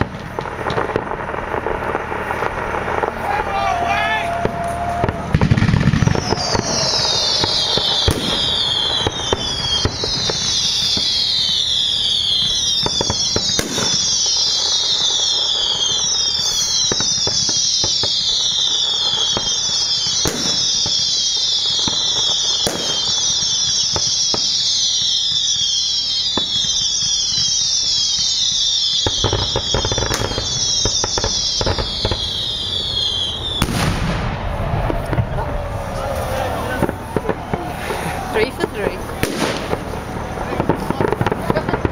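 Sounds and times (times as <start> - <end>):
firework bangs: 0.0 - 41.9
firework crackles: 0.0 - 41.9
fireworks whistling: 0.0 - 41.9.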